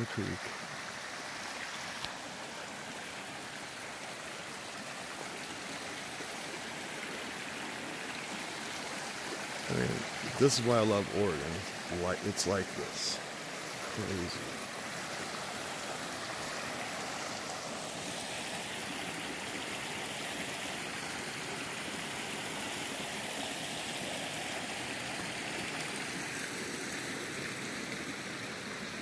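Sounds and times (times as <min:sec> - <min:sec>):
creek rushing over rocks: 0:00.0 - 0:29.0.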